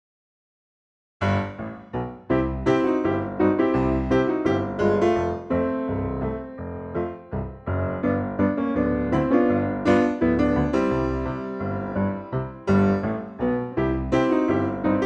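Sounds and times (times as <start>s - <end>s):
bouncy keyboard tune: 1.2s - 15.0s.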